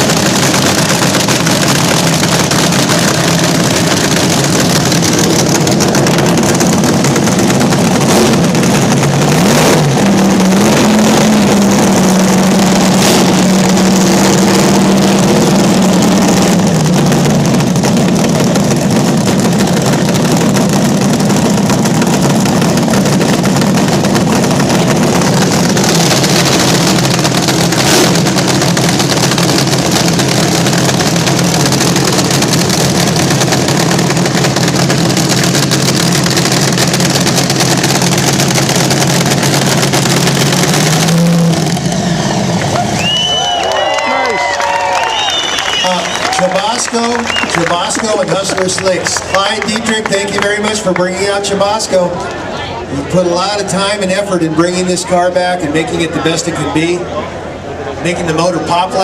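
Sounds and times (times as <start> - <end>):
engine sharp cracks: 0.0 - 52.4
drag racer engine revving: 0.0 - 59.0.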